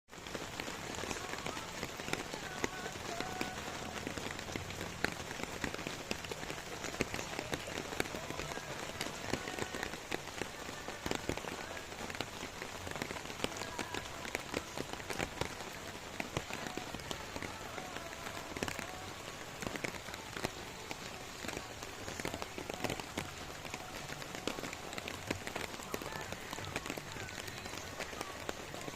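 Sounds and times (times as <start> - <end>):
raindrops tapping on surface: 0.1 - 28.9
steady rain: 0.1 - 28.9.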